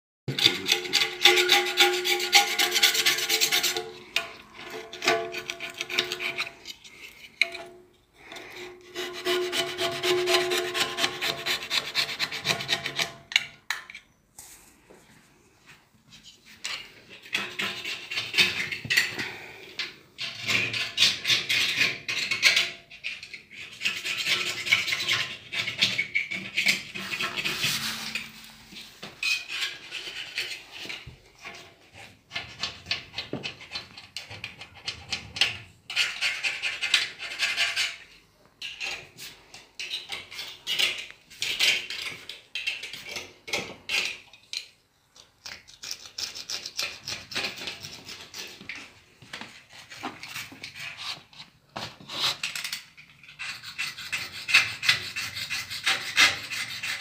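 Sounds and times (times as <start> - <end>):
tool scraping metal: 0.3 - 13.6, 16.6 - 19.4, 20.2 - 44.1, 49.7 - 57.0.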